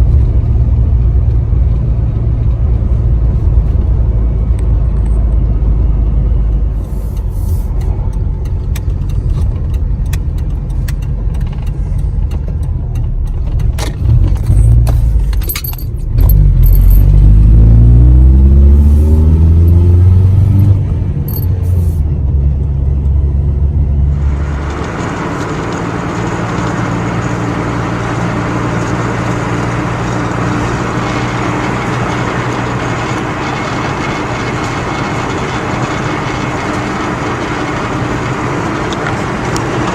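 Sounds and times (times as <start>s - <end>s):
road noise rushing: 0.0s - 39.9s
truck engine rumble: 0.0s - 39.9s.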